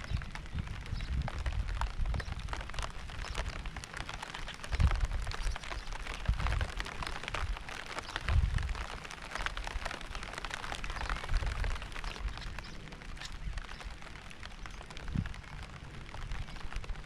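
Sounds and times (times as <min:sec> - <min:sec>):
rain drops pattering: 0:00.0 - 0:17.0.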